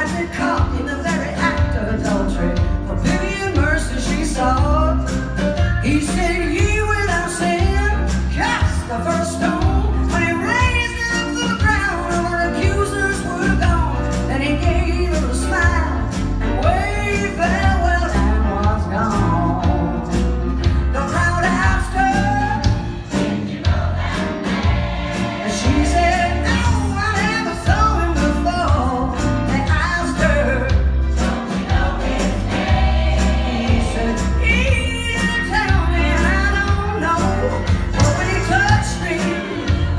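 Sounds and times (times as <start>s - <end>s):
choir and lead vocalist singing: 0.0s - 5.2s, 5.8s - 39.9s
band with heavy bass: 0.0s - 39.9s.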